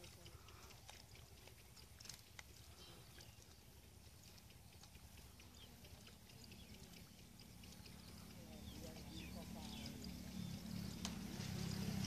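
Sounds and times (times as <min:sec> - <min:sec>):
faint clicks: 0:00.0 - 0:11.8.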